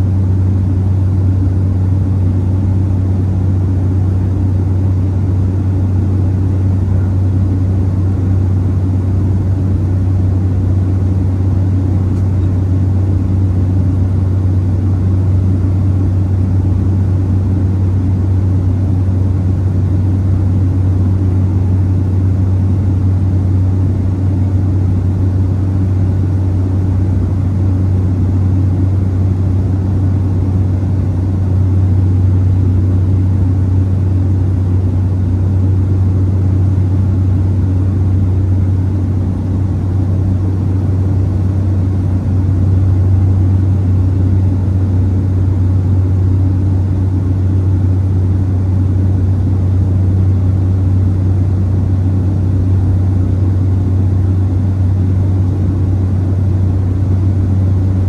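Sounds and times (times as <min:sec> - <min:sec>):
turboprop engine drone in flight: 0:00.0 - 0:58.0.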